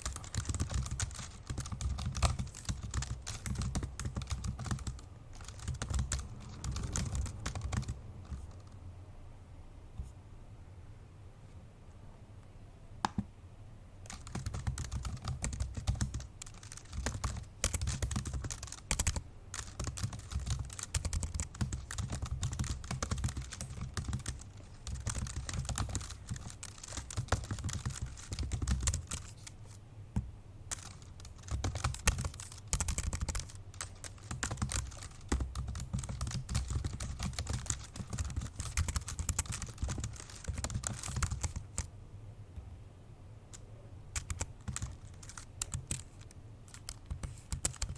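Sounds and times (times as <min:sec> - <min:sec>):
fast typing on laptop keyboard: 0:00.0 - 0:08.8, 0:14.0 - 0:29.8, 0:30.7 - 0:41.9, 0:43.5 - 0:47.9.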